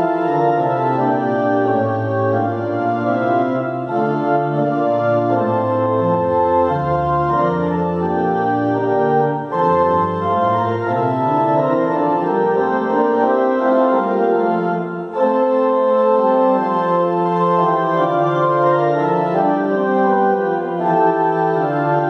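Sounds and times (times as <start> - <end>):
pipe organ playing hymn chords: 0.0 - 22.0.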